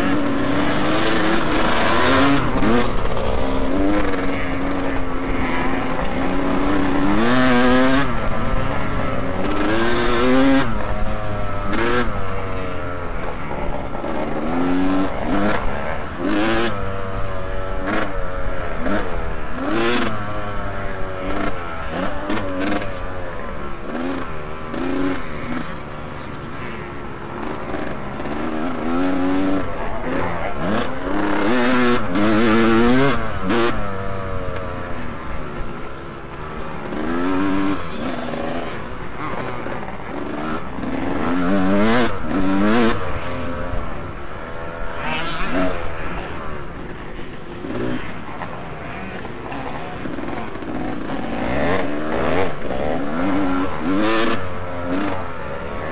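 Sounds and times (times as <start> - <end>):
motocross bike engines revving: 0.0 - 55.9.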